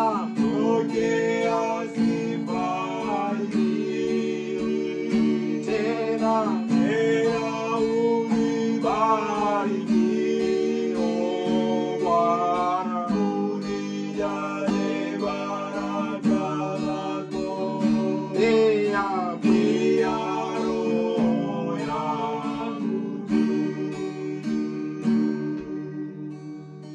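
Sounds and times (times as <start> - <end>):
two men singing together: 0.0 - 25.2
acoustic guitar strumming: 0.0 - 26.9.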